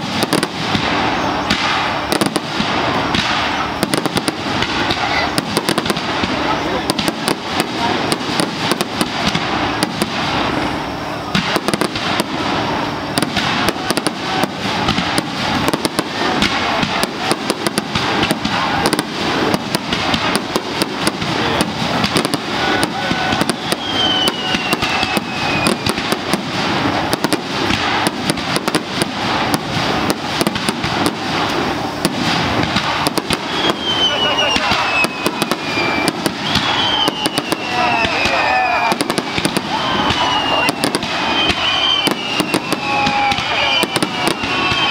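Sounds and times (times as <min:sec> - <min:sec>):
falling firework whistle: 0:00.0 - 0:44.9
fireworks bursting: 0:00.0 - 0:44.9.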